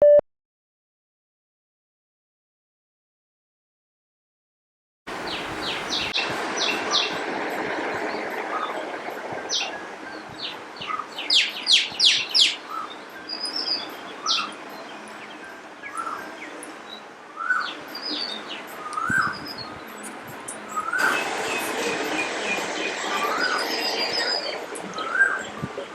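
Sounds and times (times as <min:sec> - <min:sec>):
steady outdoor hum: 0:05.1 - 0:25.9.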